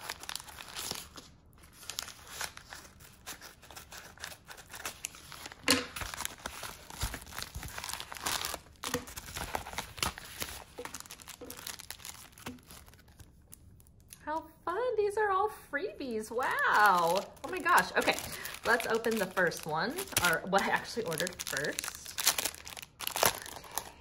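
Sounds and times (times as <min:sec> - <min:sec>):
paper mailer crinkling: 0:00.0 - 0:13.4, 0:16.5 - 0:24.0.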